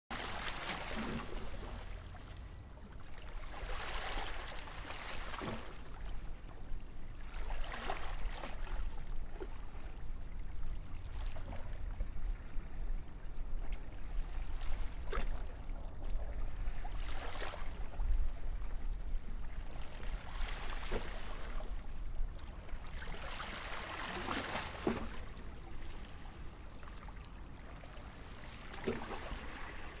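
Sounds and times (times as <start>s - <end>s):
waves washing in gently: 0.1s - 30.0s.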